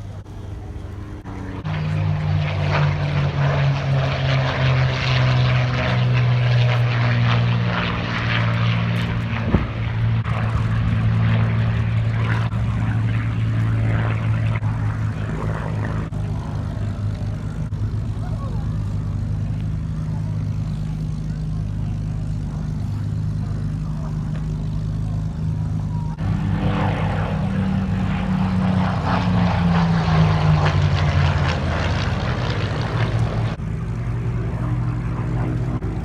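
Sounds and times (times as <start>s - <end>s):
propeller aircraft engine: 0.0s - 36.0s.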